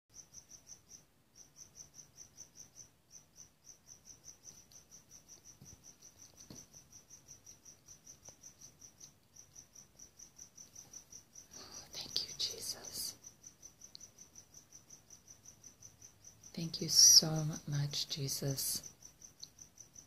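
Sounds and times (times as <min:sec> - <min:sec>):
cricket chirping: 0:00.1 - 0:20.0.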